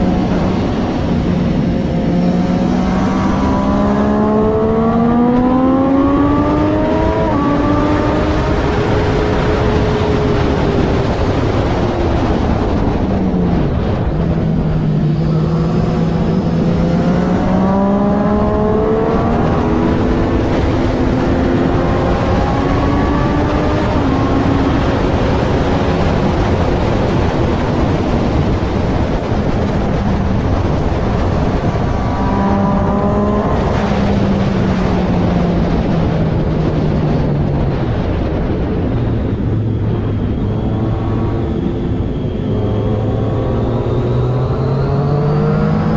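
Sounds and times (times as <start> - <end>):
motorcycle engine revving: 0.0 - 45.9
rush of noise: 0.0 - 45.9.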